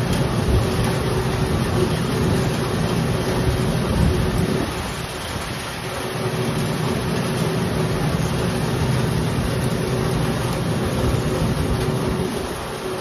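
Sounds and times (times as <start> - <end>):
threshing machine running: 0.0 - 13.0.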